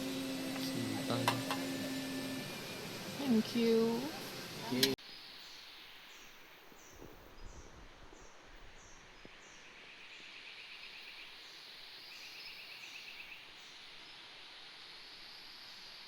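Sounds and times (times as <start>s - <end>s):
insect hiss: 2.2s - 16.0s.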